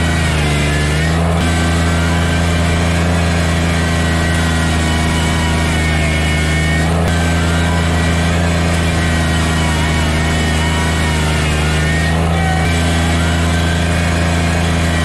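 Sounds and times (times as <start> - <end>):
loader bucket pushing snow: 0.0 - 15.0
tractor diesel engine running: 0.0 - 15.0.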